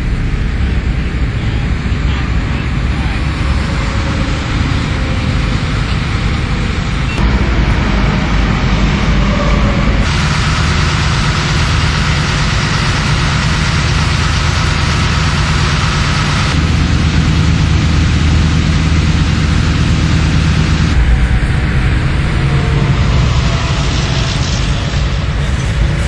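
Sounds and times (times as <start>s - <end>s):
road noise: 0.0s - 26.0s
vehicle engines running: 0.0s - 26.0s.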